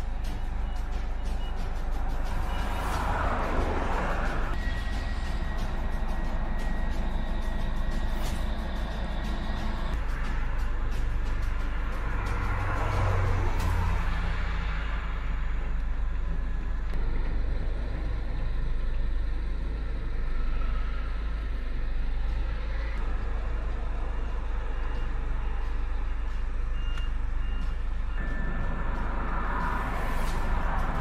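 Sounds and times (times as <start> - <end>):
heavy vehicle engines rumbling: 0.0 - 31.0.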